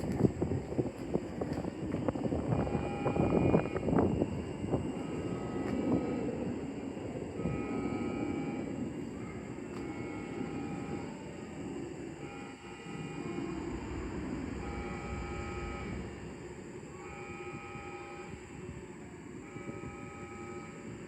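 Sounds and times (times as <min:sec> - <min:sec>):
faint whining tones: 0:00.0 - 0:21.0
low train rumble: 0:00.0 - 0:21.0.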